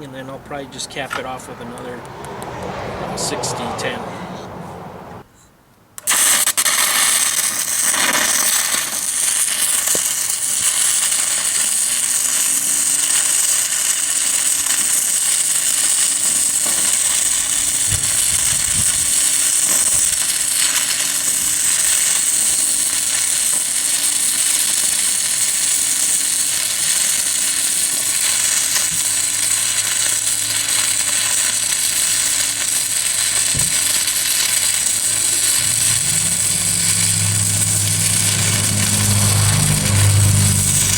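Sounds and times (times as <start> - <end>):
welding arc crackling and hissing: 6.0 - 40.9.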